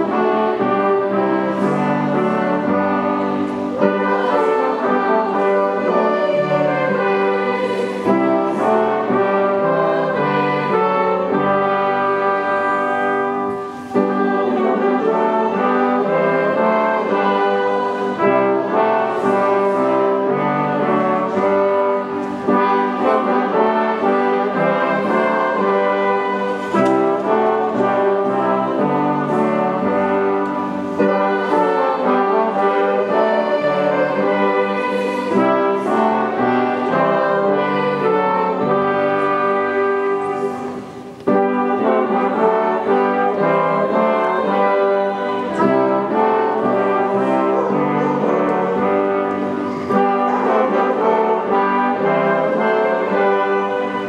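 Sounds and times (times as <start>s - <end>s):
hymn music with sustained chords: 0.0s - 54.0s.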